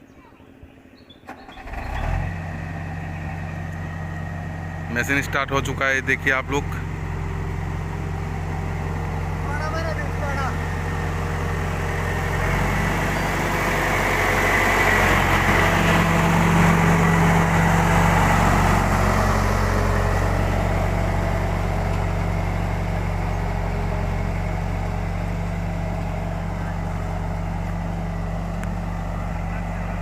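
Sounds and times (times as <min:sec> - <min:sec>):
road roller diesel engine running: 0:00.0 - 0:30.0.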